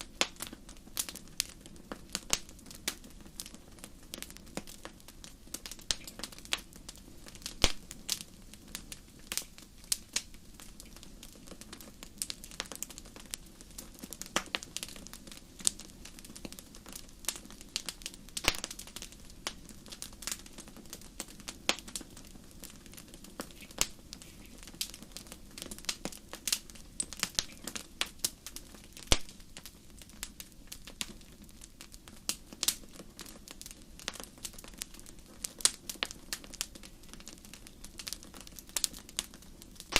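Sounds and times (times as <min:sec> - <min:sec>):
soft hiss: 0:00.0 - 0:39.9
wood fire crackling and popping: 0:00.0 - 0:39.9.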